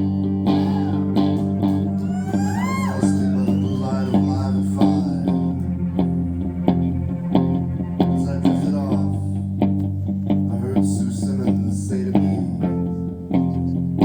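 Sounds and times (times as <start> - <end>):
bass guitar: 0.0 - 14.0
guitar playing: 0.0 - 14.0.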